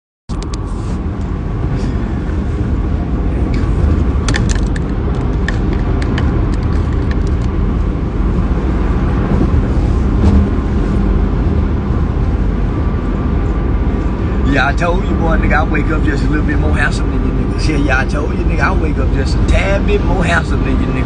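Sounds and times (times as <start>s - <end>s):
car road and engine rumble: 0.3s - 21.0s.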